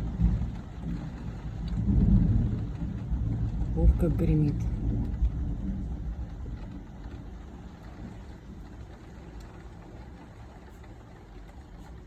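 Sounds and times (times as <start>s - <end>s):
heavy rain: 0.0s - 12.0s
thunder rumbling: 0.0s - 12.0s.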